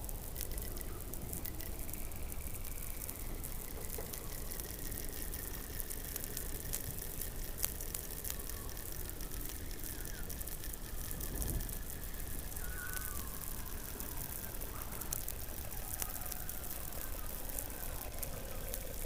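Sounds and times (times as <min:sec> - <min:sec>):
crackle of sharp clicks: 0:00.0 - 0:19.0.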